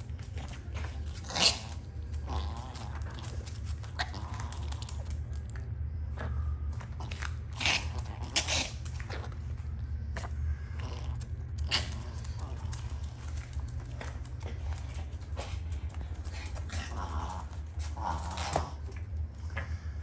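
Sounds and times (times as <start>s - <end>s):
dog claws clicking on floor: 0.0s - 19.8s
steady low hum: 0.0s - 20.0s.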